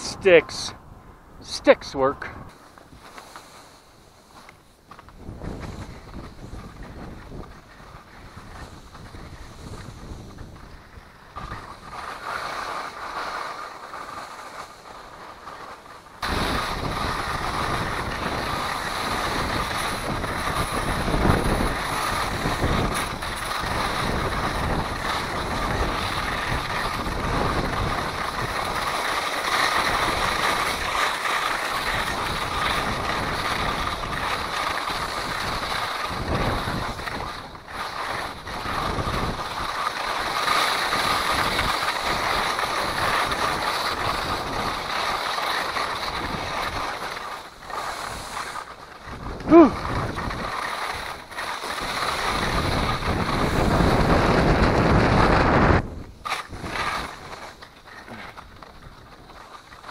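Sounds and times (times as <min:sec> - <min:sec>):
wind rushing over microphone: 0:00.0 - 0:59.9
skis sliding on snow: 0:01.4 - 0:59.9.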